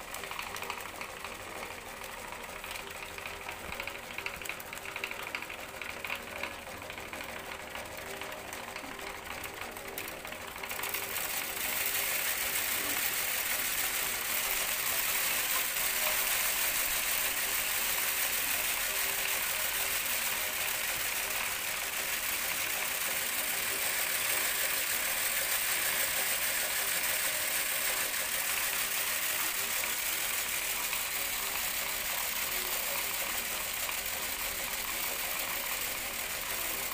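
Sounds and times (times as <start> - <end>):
grains rattling on metal sieve: 0.0 - 36.9
machine mechanical hum: 0.0 - 36.9.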